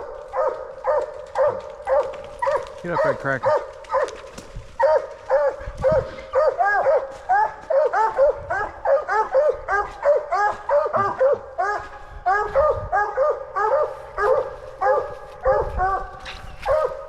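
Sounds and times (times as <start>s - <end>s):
hounds barking: 0.0s - 17.0s.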